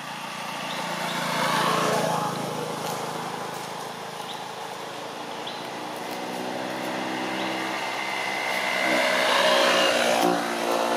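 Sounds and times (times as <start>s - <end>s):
vehicle engine passing: 0.0s - 10.9s.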